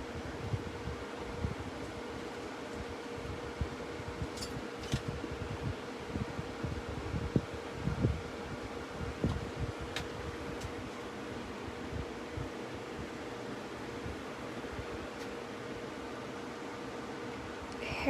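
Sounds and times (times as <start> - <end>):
faint constant tone: 0.0 - 18.0
fan-like background hum: 0.0 - 18.0.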